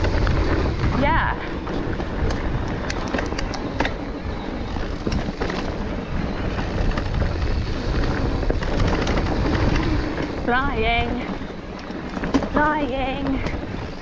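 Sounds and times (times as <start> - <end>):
bike rattling clicks and knocks: 0.0 - 14.0
bike tyres rumbling on dirt: 0.0 - 14.0
wind rushing past microphone: 0.0 - 14.0.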